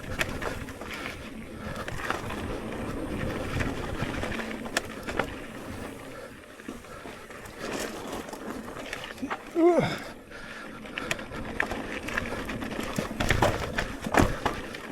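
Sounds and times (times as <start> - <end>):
bike tyre rumble and rattling: 0.0 - 14.9.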